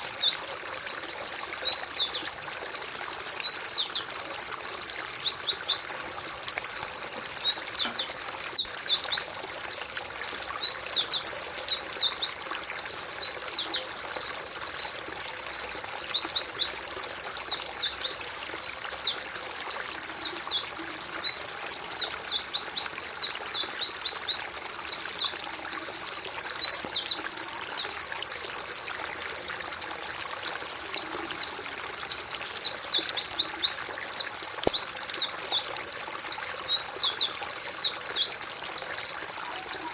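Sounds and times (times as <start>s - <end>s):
birds chattering and singing: 0.0s - 39.9s.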